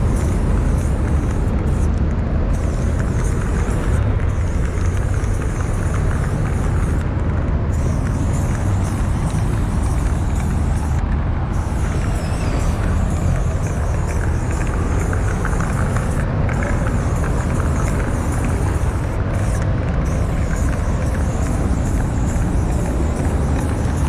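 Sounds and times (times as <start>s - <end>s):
spray paint can hissing: 0.0s - 24.0s
steady low rumble: 0.0s - 24.0s.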